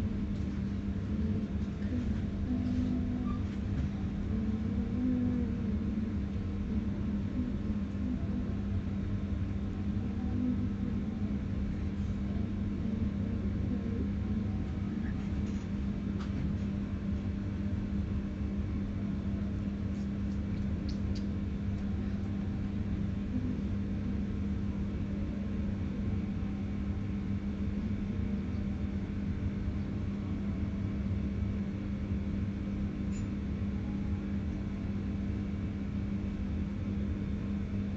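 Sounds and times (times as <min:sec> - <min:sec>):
mechanical hum and rumble: 0:00.0 - 0:37.9.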